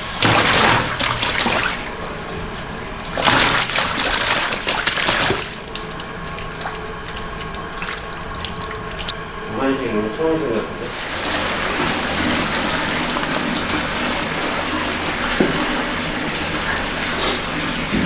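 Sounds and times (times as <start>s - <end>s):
water gushing: 0.0s - 18.0s.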